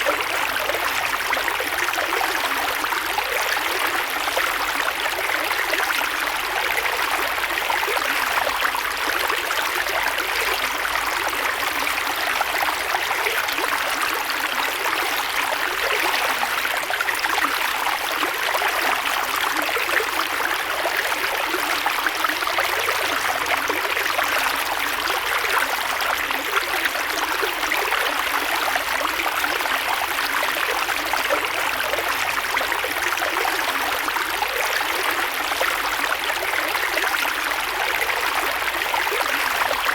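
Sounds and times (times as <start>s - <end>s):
creek water over rocks: 0.0s - 39.9s.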